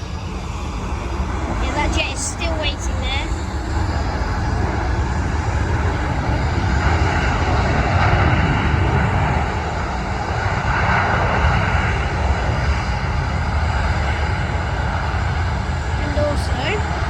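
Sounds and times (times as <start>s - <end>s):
airliner jet engines roaring: 0.0s - 17.0s.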